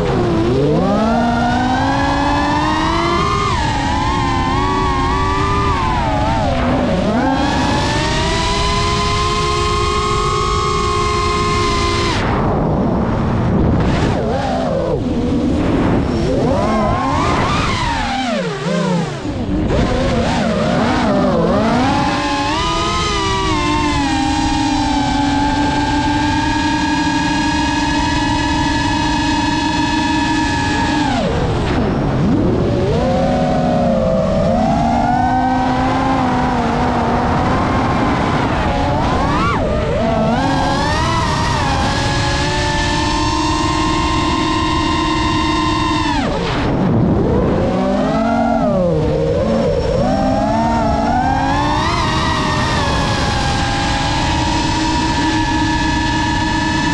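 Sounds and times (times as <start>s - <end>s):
quadcopter motors whining: 0.0s - 56.9s
steady rushing noise: 0.0s - 56.9s.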